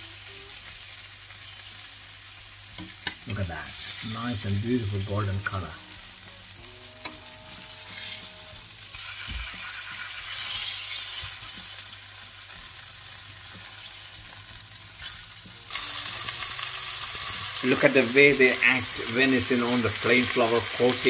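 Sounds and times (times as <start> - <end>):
fish fillets sizzling in oil: 0.0 - 21.0.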